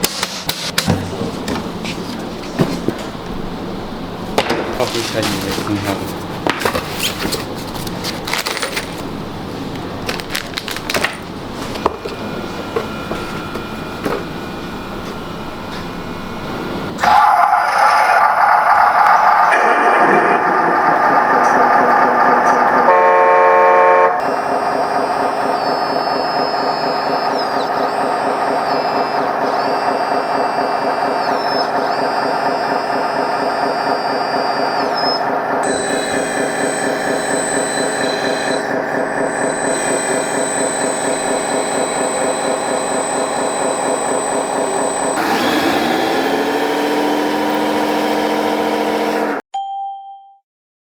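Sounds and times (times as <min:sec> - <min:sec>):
electric motors whining: 0:00.0 - 0:49.4.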